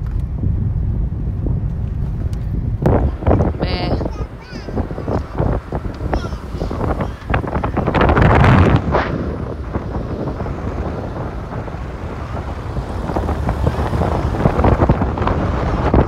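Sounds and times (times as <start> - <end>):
car and tyres rumbling on road: 0.0 - 16.0
wind buffeting microphone: 0.0 - 16.0.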